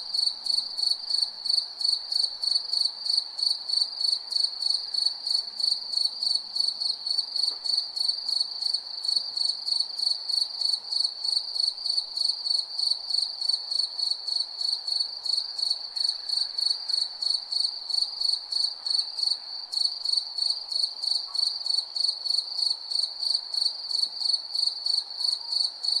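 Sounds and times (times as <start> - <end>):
cricket chirping: 0.1 - 26.0.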